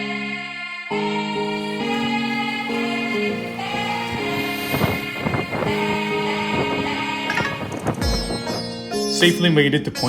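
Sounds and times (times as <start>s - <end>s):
slow sustained background music: 0.0s - 9.6s.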